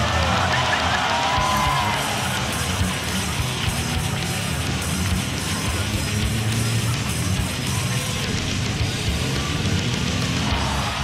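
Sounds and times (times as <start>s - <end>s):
rock music with guitar: 0.0s - 11.0s.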